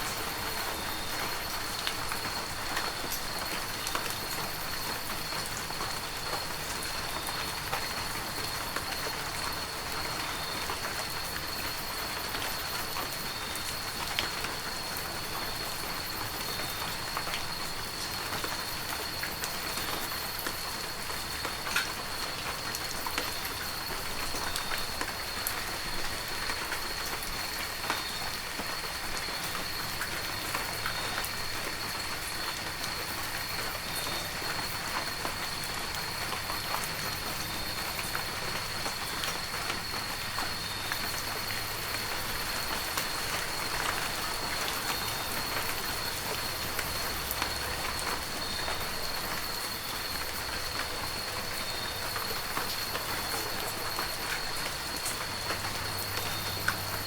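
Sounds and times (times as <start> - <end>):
heavy rain falling: 0.0 - 57.0
raindrops pattering: 0.0 - 57.0.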